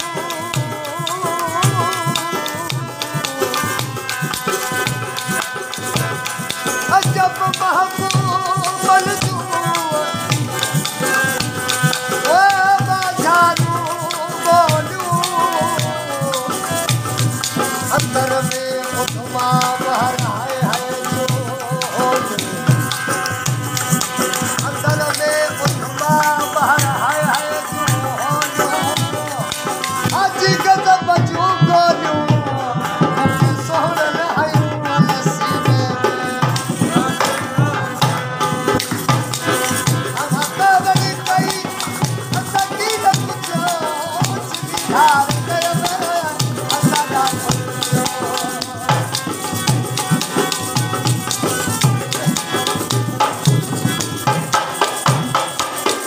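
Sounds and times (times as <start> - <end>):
barrel hand drum beat: 0.0 - 56.0
rattling percussion: 0.0 - 56.0
wavering melody: 0.0 - 56.0.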